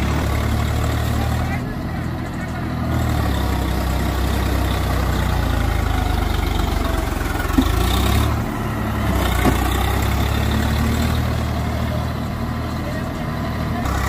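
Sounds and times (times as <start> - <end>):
tractor diesel engine: 0.0 - 14.0.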